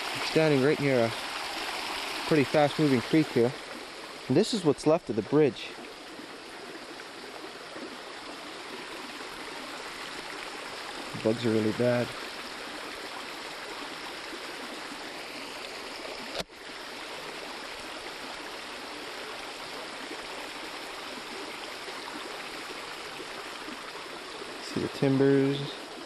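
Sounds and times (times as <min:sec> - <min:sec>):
creek rushing: 0:00.0 - 0:26.0.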